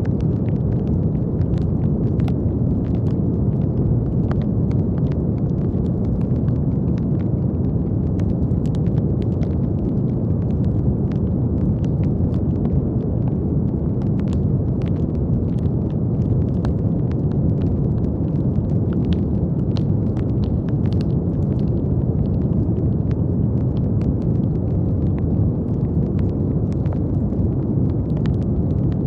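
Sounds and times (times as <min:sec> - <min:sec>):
brown noise rumbling hiss: 0:00.0 - 0:29.0
faint crackling clicks: 0:00.0 - 0:29.0.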